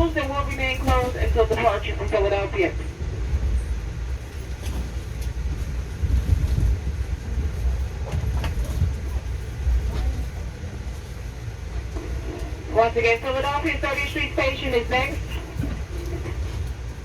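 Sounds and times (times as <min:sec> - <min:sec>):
train coach rumbling on track: 0:00.0 - 0:17.0.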